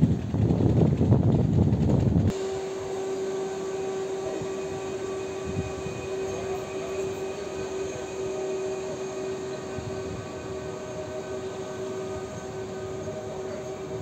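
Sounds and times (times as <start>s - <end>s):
train wheels rumbling on rail: 0.0s - 14.0s
traction motors whining: 2.2s - 14.0s.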